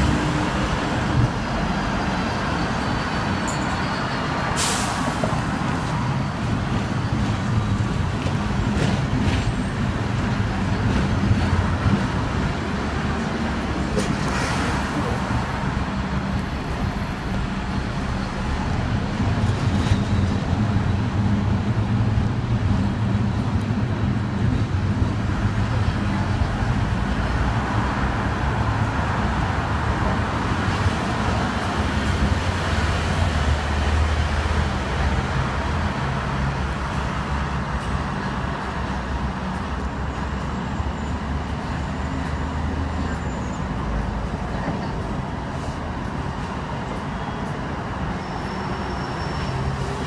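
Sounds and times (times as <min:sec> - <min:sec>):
road traffic: 0:00.0 - 0:50.0
tram wheels rumbling on rail: 0:00.0 - 0:50.0.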